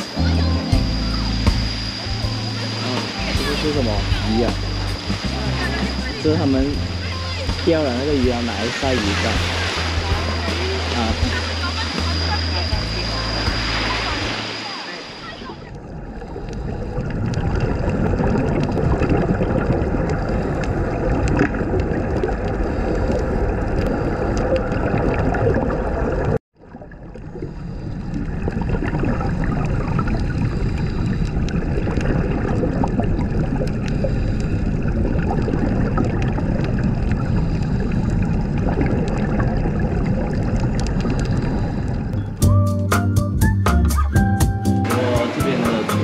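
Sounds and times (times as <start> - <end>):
underwater bubbling and gurgling: 0.0 - 42.4.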